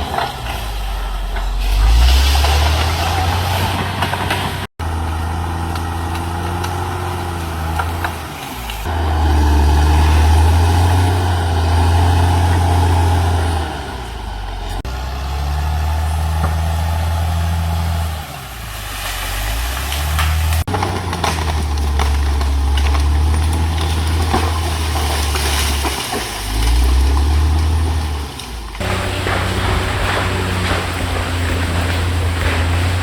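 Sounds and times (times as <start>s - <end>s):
bulldozer diesel engine running hard: 0.0s - 25.6s, 26.7s - 33.0s.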